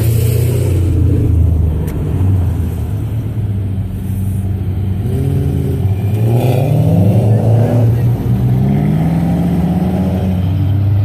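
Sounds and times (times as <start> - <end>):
car engine revving: 0.0 - 11.0
cars driving past: 0.0 - 11.0.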